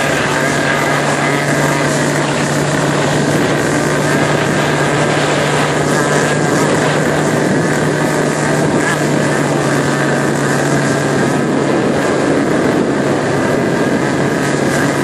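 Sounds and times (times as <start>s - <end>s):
motorboat engine hum: 0.0s - 15.0s
water and wind rushing: 0.0s - 15.0s.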